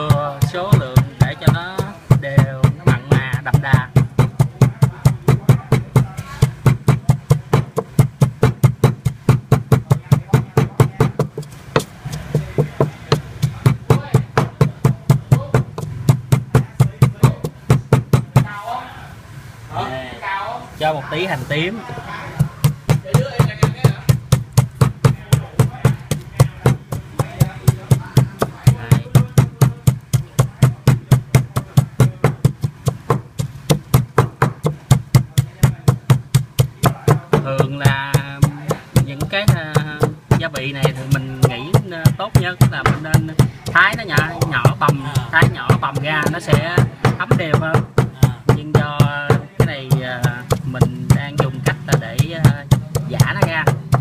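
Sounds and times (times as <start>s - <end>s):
pestle pounding in wooden mortar: 0.0s - 18.6s, 21.2s - 54.0s.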